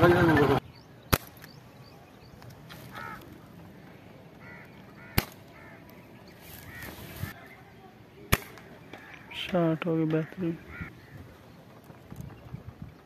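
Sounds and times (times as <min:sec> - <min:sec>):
harsh bird calls: 0:00.0 - 0:13.0.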